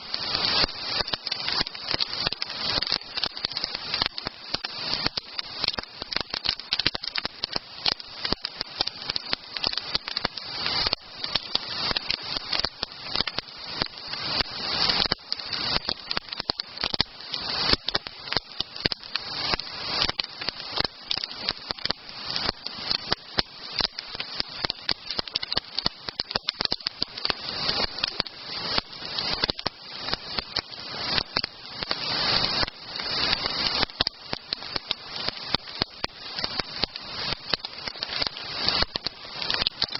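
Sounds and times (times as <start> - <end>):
campfire crackling and popping: 0.0 - 39.9
fire hissing: 0.0 - 39.9.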